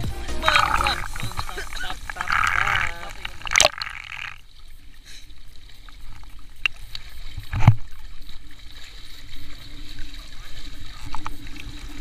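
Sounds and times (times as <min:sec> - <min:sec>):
river water sloshing and lapping: 0:00.0 - 0:12.0.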